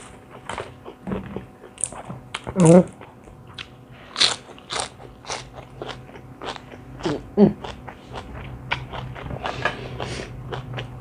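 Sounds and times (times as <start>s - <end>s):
crunching bites and chewing: 0.0s - 9.4s.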